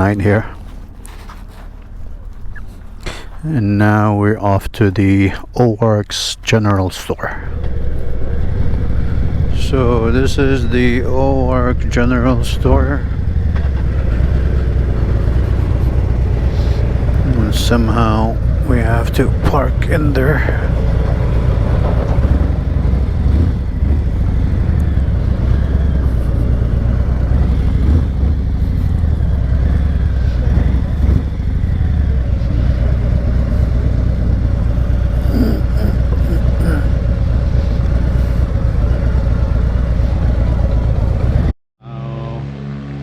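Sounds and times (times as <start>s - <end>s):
motorcycle engine rumbling: 0.0s - 41.6s.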